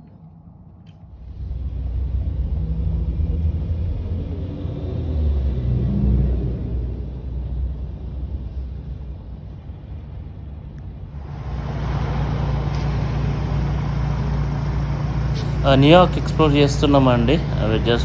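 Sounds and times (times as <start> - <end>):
low hum: 0.0 - 18.0
street noise: 0.0 - 18.0
vehicle rumble from inside: 0.0 - 18.0.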